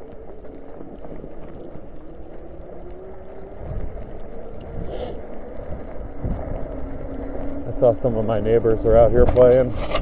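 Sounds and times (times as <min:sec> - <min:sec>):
bike tyres riding through snow: 0:00.0 - 0:10.0.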